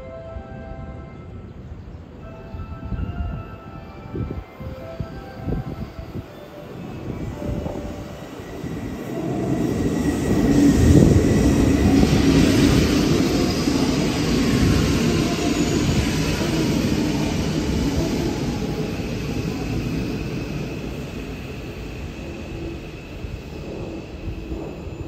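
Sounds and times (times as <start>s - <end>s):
electric train braking to a stop: 2.4s - 25.0s.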